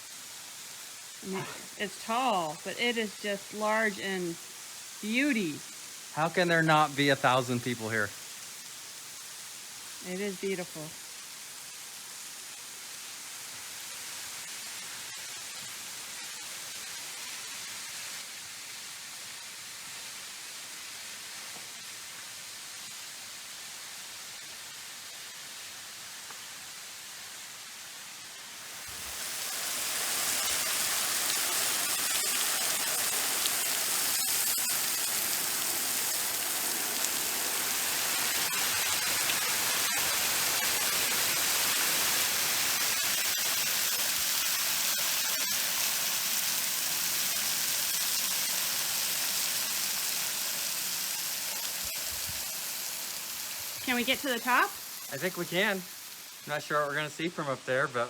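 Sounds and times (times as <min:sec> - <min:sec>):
waterfall splashing into pool: 0:00.0 - 0:58.0.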